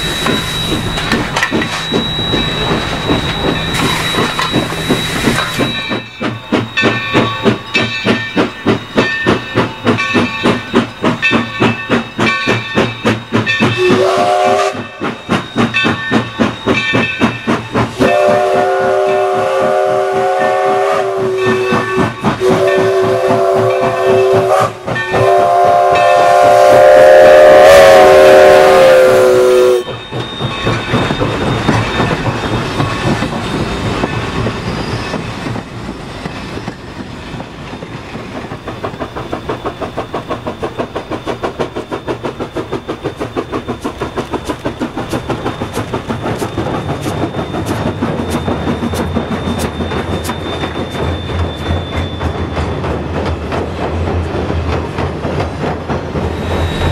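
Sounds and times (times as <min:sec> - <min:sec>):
freight cars clattering on rails: 0:00.0 - 0:19.8, 0:29.8 - 0:56.9
steam locomotive chime whistle: 0:00.0 - 0:35.6, 0:37.4 - 0:55.0, 0:56.2 - 0:56.9
steam locomotive chuffing: 0:00.0 - 0:56.9.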